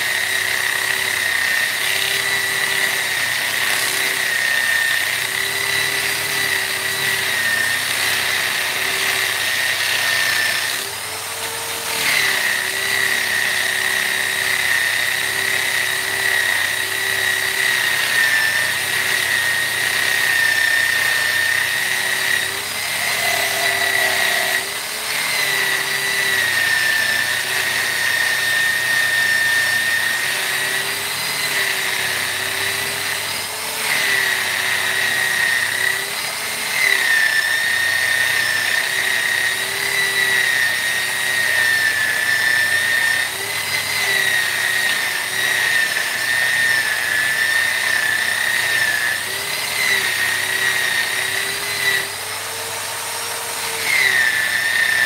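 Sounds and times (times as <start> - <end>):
rotary power tool whining: 0.0 - 55.0.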